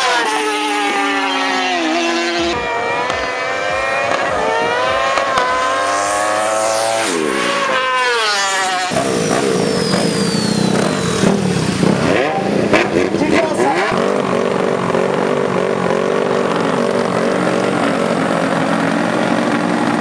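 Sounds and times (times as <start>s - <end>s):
motorcycle engines accelerating: 0.0s - 20.0s
rough low engine: 0.0s - 20.0s.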